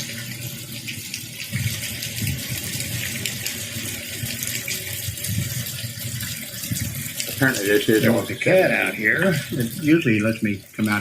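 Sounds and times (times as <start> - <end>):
rain falling and splashing: 0.0 - 11.0.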